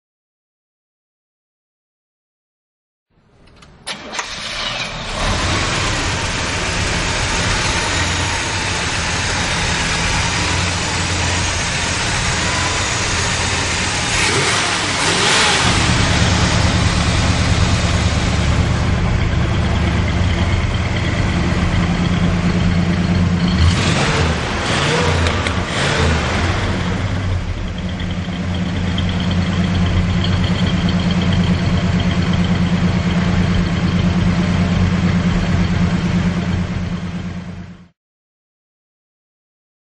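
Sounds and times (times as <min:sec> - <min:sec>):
car engine idling and revving: 0:03.9 - 0:37.9.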